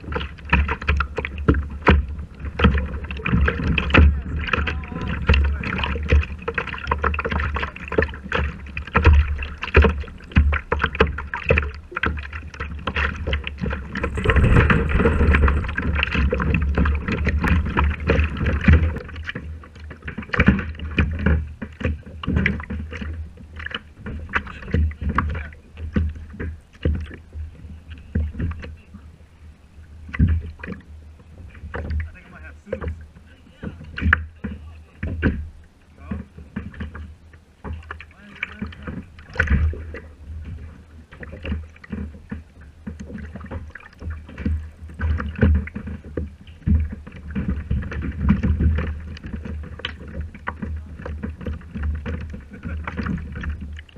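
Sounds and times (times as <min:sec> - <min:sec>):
wind rumble on microphone: 0:00.0 - 0:29.4, 0:37.7 - 0:53.9
water splashing against kayak hull: 0:00.0 - 0:53.9.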